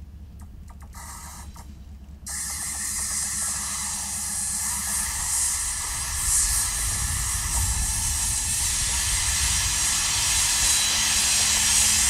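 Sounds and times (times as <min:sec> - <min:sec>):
diesel locomotive rumble: 0:00.0 - 0:12.0
loud steady hiss: 0:02.3 - 0:12.0.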